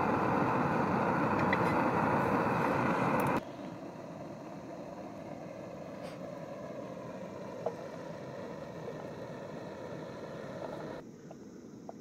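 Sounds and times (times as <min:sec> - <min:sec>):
gas stove burner rushing: 0:00.0 - 0:11.0.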